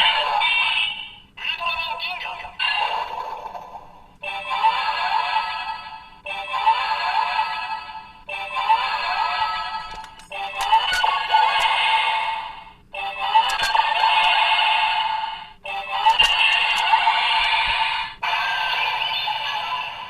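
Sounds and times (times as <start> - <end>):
toy speaker music and synthetic voice: 0.0 - 20.0.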